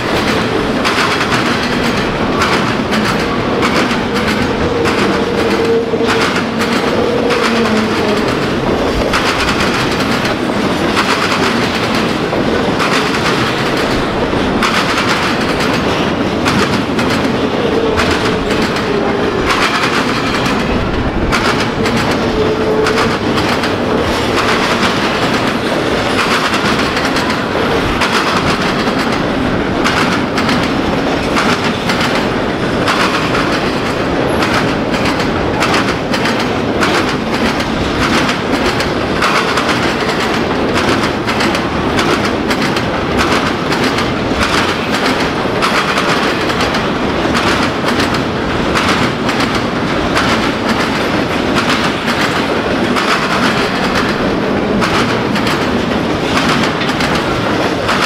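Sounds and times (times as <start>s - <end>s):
train wheels rumbling and clicking: 0.0s - 58.0s.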